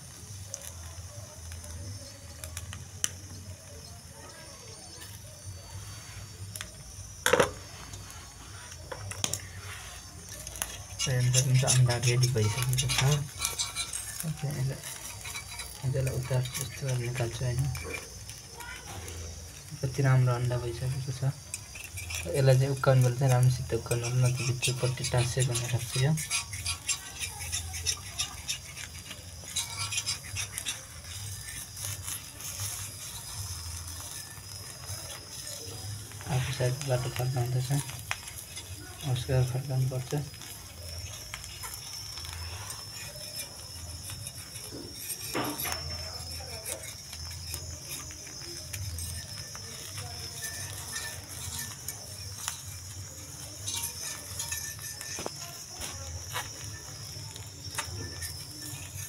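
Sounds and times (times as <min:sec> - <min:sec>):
egg frying hiss: 0:00.0 - 0:59.0
fork scraping a pan: 0:05.0 - 0:59.0.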